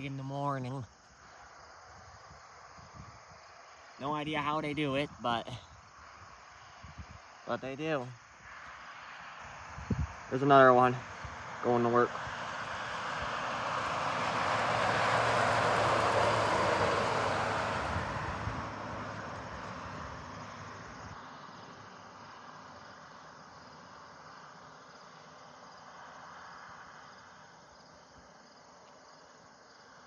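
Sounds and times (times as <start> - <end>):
insects chirring: 0.0 - 30.0
car passing on highway: 5.8 - 30.0.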